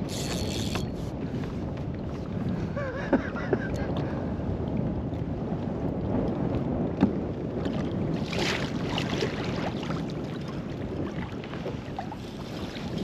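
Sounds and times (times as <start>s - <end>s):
water splashing around kayak: 0.0s - 13.0s
wind buffeting microphone: 0.0s - 13.0s.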